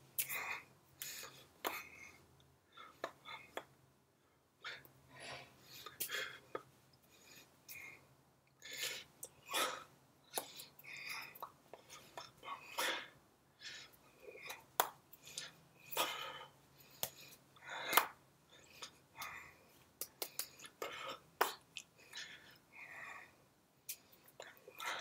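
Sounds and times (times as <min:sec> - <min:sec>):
soft breaths and mouth noises: 0:00.1 - 0:25.0.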